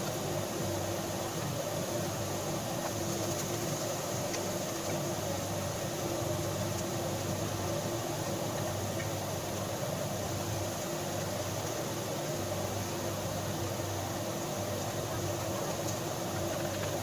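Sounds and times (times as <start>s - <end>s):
even hiss: 0.0s - 17.0s
mechanical hum: 0.0s - 17.0s.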